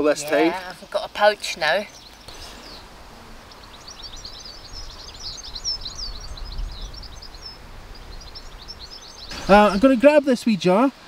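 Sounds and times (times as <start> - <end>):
small birds twittering: 0.0 - 11.0.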